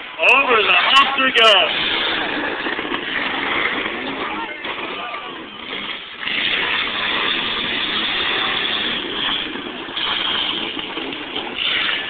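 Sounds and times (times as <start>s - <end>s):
truck engines running hard: 0.0s - 12.0s.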